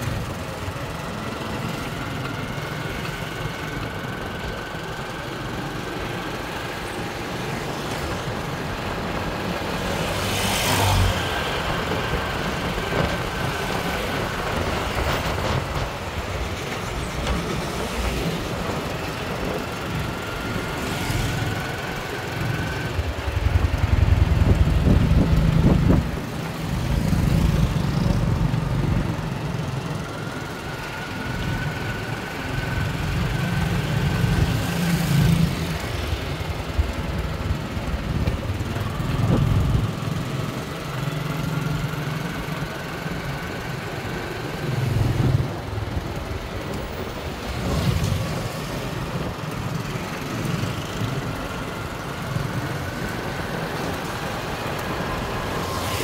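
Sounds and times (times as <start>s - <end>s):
faint engine whines: 0.0s - 56.0s
vehicles passing: 0.0s - 56.0s.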